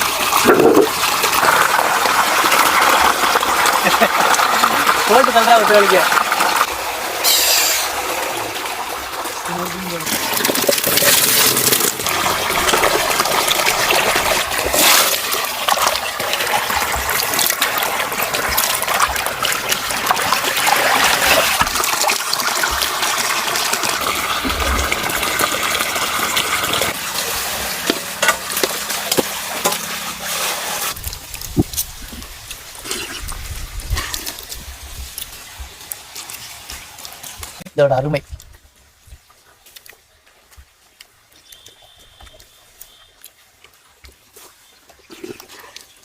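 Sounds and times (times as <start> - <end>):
water splashing and gushing: 0.0 - 46.0.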